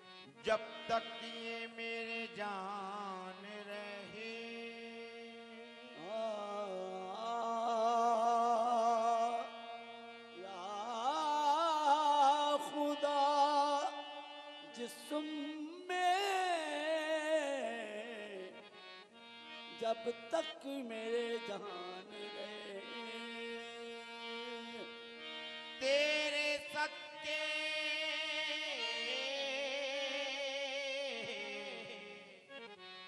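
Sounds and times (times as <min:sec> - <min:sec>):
harmonium drone: 0:00.0 - 0:33.0
person singing devotional song: 0:00.0 - 0:33.0.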